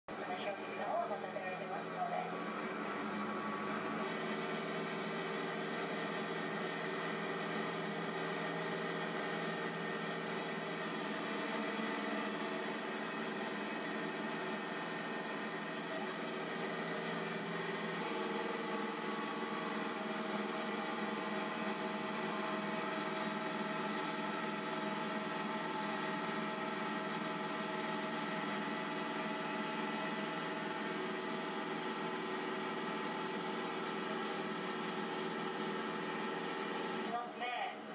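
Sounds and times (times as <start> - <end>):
boat engine droning: 0.1 - 37.7.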